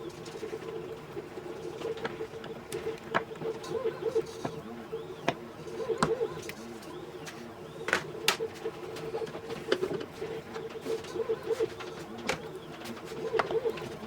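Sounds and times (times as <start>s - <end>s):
steady hum with low warble: 0.0s - 14.0s.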